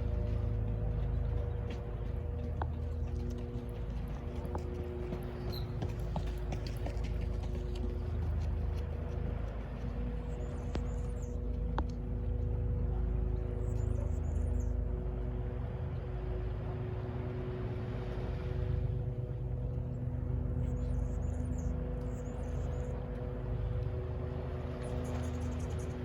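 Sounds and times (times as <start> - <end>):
distant city traffic rumble: 0.0 - 26.0
droning hum: 0.0 - 26.0.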